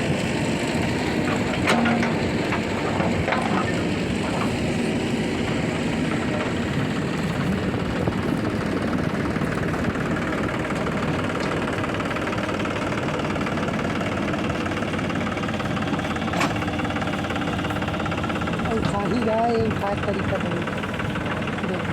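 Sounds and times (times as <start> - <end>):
heavy diesel engine running: 0.0 - 21.9.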